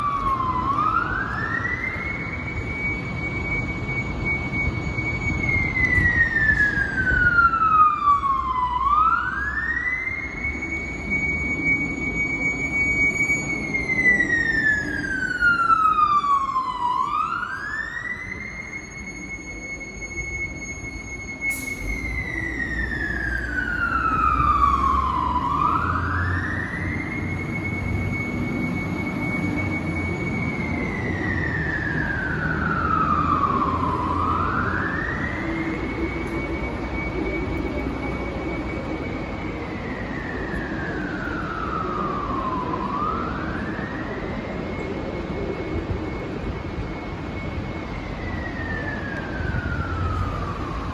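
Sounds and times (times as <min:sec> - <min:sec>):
fire truck siren wailing: 0:00.0 - 0:50.9.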